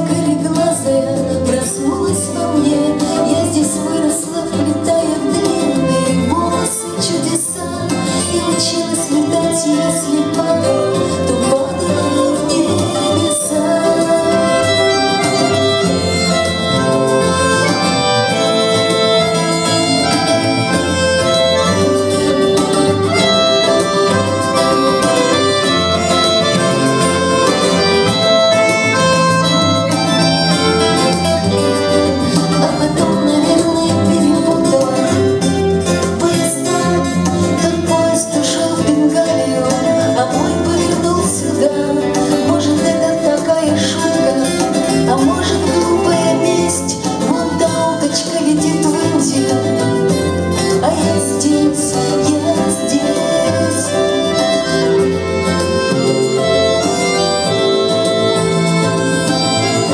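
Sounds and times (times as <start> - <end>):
strummed acoustic guitars: 0.0 - 59.9
violin: 0.0 - 59.9
button accordion: 0.1 - 59.9.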